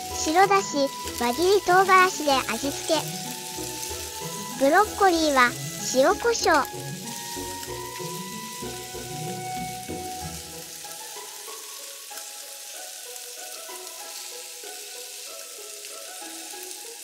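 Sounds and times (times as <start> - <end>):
food sizzling in a frying pan: 0.0 - 17.0
light background music: 0.0 - 17.0.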